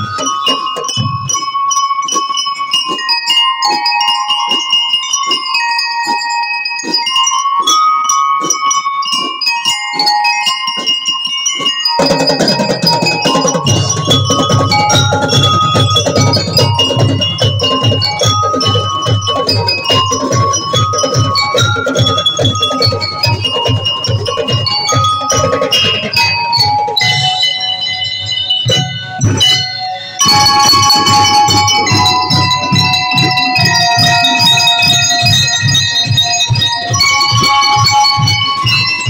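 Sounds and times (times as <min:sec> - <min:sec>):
drums steady beat: 0:00.0 - 0:05.5, 0:10.0 - 0:39.0
bell lyres ringing melody: 0:00.0 - 0:39.0.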